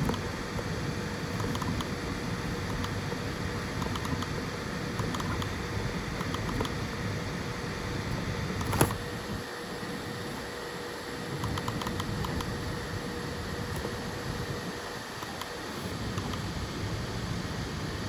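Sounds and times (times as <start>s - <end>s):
printer fan and motor hum: 0.0s - 18.0s.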